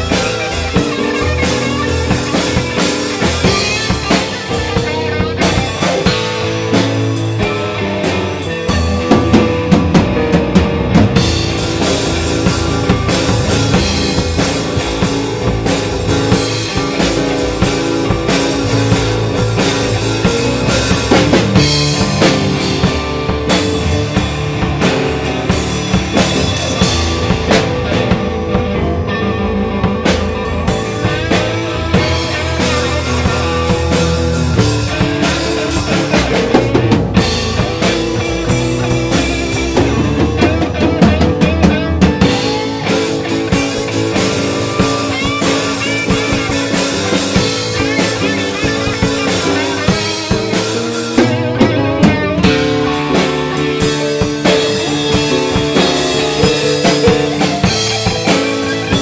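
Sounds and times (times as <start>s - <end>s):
deep bass notes: 0.0s - 59.0s
drum kit playing a steady beat: 0.0s - 59.0s
electric keyboard notes: 0.0s - 59.0s.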